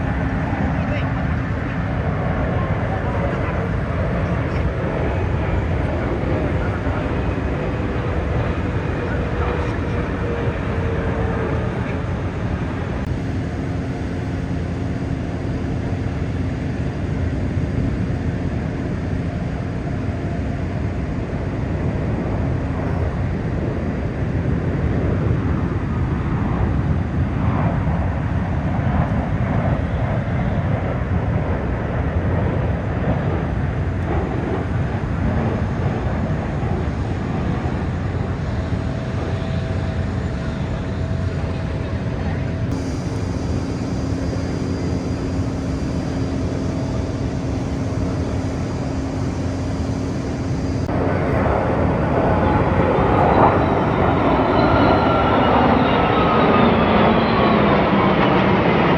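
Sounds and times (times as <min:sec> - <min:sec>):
aircraft engine: 0:00.0 - 0:58.9.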